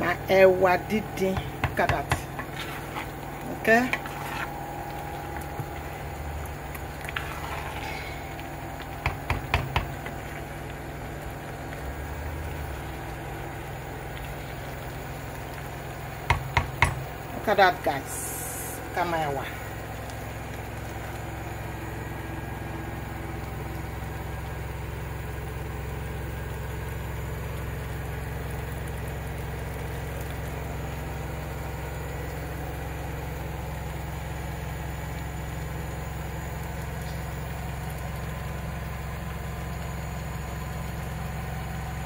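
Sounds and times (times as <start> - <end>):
appliance motor hum: 0.0 - 42.0.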